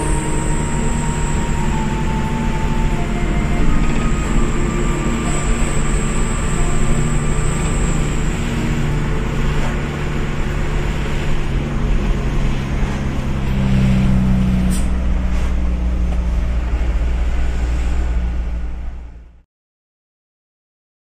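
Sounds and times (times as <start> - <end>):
diesel engine droning: 0.0 - 19.4
tyre and road noise: 0.0 - 19.4.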